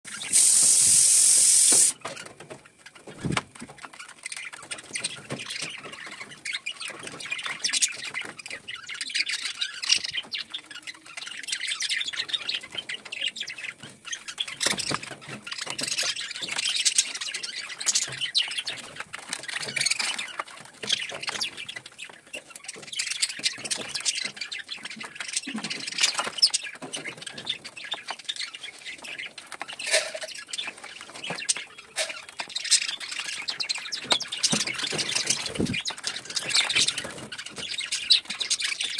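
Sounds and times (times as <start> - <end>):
budgerigars chattering and chirping: 0.1 - 38.9.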